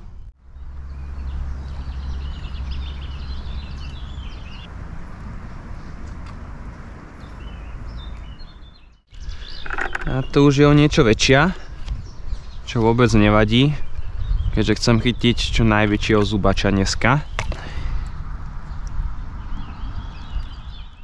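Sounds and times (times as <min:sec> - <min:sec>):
small birds chirping: 0:00.0 - 0:06.1, 0:07.0 - 0:21.0.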